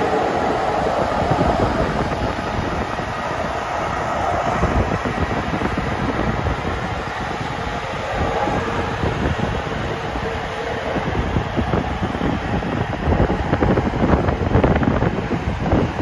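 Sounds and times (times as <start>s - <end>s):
locomotive running machinery: 0.0s - 16.0s
train wheels rumbling on rail: 0.0s - 16.0s.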